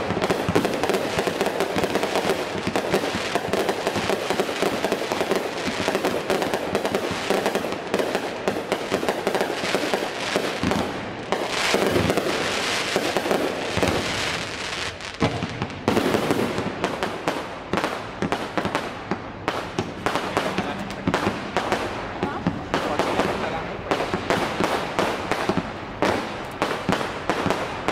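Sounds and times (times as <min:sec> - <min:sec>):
fireworks crackling: 0:00.0 - 0:27.9.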